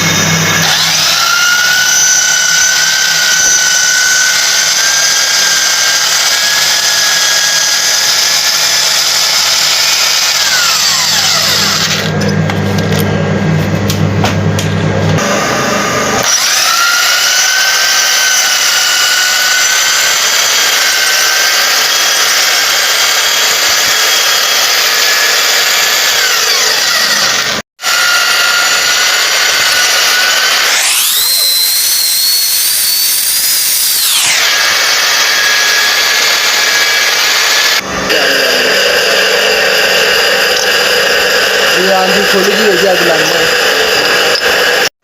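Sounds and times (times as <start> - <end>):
power tool motor whining: 0.0 - 13.0, 15.2 - 45.0.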